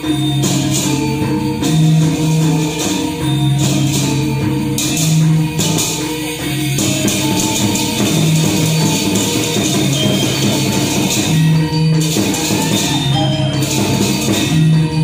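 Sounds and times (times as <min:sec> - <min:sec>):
gamelan playing: 0:00.0 - 0:15.0.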